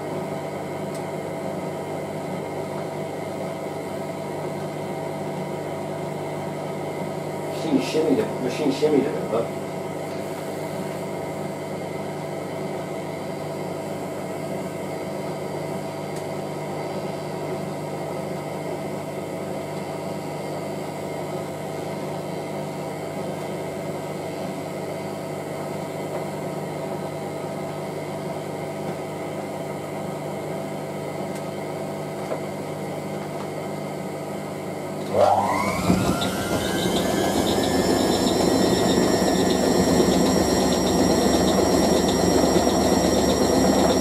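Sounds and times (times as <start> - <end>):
washing machine humming: 0.0 - 44.0.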